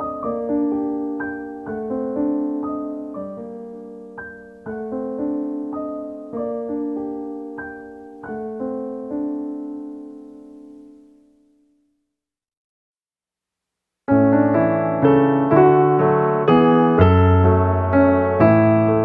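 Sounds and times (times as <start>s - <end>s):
gentle solo piano: 0.0s - 11.6s, 14.1s - 19.0s.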